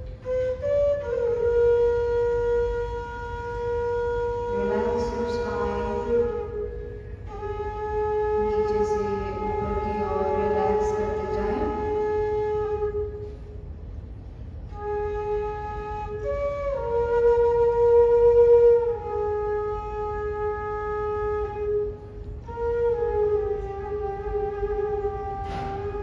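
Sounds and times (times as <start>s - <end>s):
low steady hum: 0.0s - 26.0s
slow flute music: 0.0s - 26.0s.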